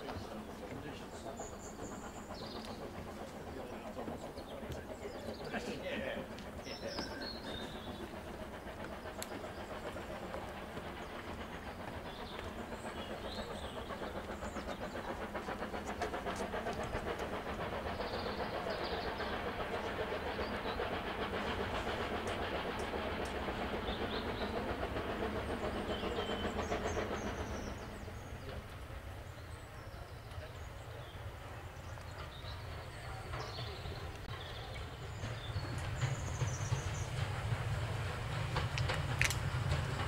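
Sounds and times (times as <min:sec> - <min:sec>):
birds chirping: 0:00.0 - 0:40.0
steam locomotive hauling a train: 0:00.0 - 0:40.0
wheels on rails: 0:00.0 - 0:40.0.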